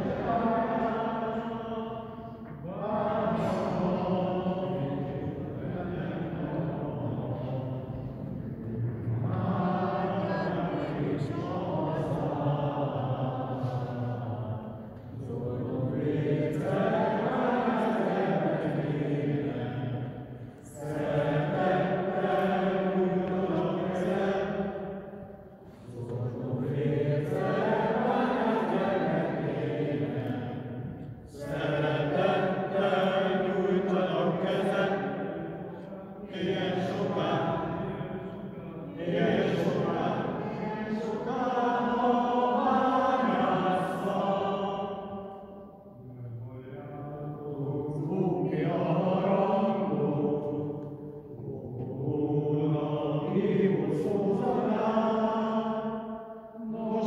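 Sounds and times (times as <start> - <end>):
voices chanting long notes: 0.0 - 46.1, 47.5 - 57.0
group singing a hymn: 0.0 - 57.0.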